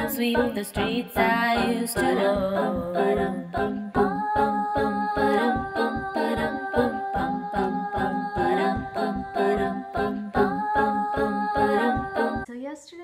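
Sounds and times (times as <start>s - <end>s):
song with held sung notes: 0.0s - 12.5s.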